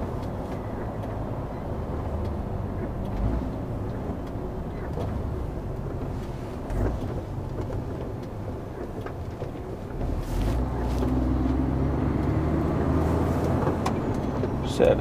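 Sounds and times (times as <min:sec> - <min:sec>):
lorry diesel engine: 0:00.0 - 0:15.0.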